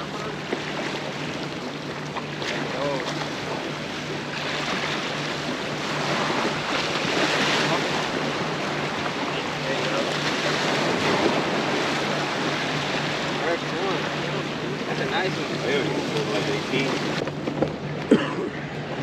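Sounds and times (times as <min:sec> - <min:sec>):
small waves breaking on rocks: 0:00.0 - 0:17.6.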